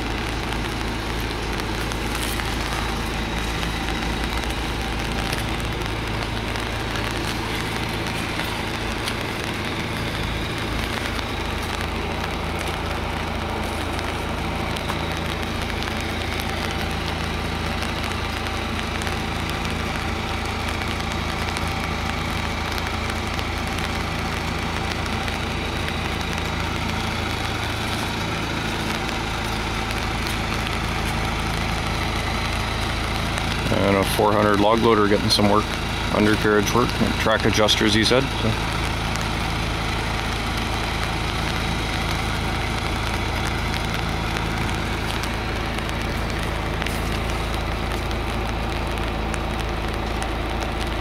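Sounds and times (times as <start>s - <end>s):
crackling hiss: 0.0s - 51.0s
engine idling: 0.0s - 51.0s.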